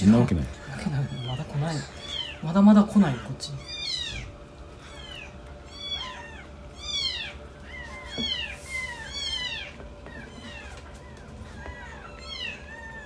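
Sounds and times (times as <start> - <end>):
kittens mewing: 0.0 - 13.0.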